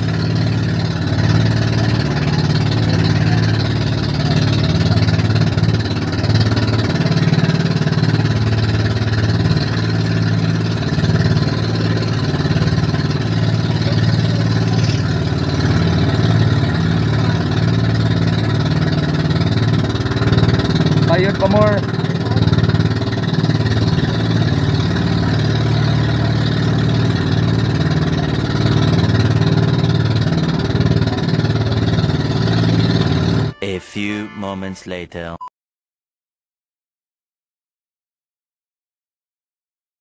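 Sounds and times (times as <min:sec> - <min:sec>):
boat engine running: 0:00.0 - 0:33.6.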